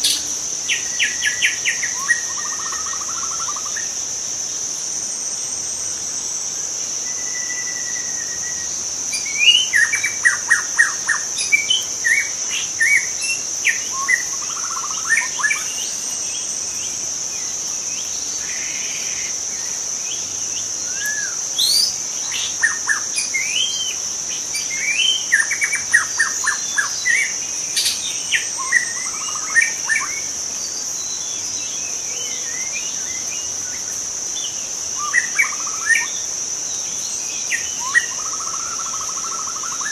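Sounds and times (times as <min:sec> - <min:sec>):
bird singing whistles and trills: 0:00.0 - 0:04.0, 0:07.0 - 0:39.9
high-pitched insect drone: 0:00.0 - 0:39.9.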